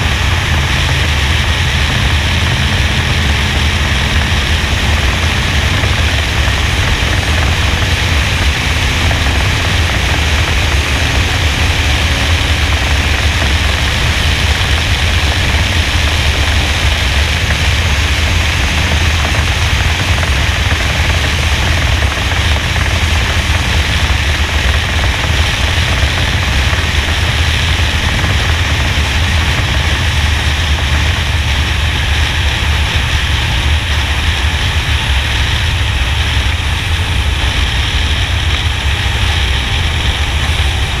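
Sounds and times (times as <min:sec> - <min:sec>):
race car engine drone: 0:00.0 - 0:41.0
rushing wind noise: 0:00.0 - 0:41.0.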